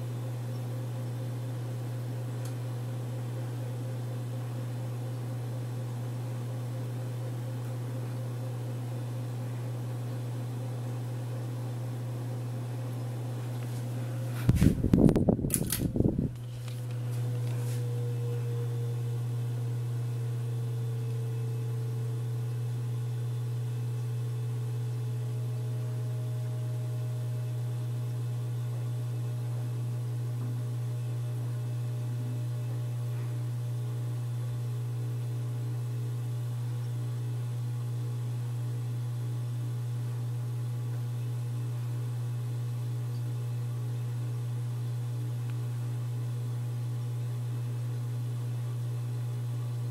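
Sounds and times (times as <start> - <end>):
ceiling fan motor hum: 0.0 - 49.9.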